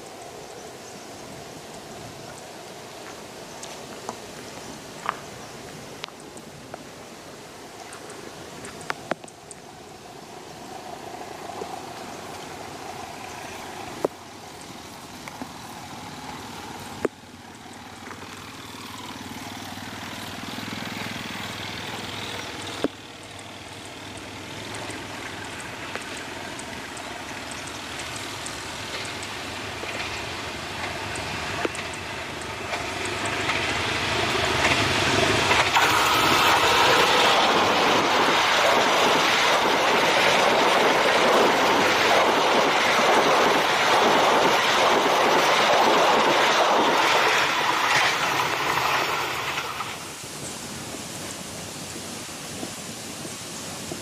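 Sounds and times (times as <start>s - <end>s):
passenger train passing: 0.0s - 54.0s.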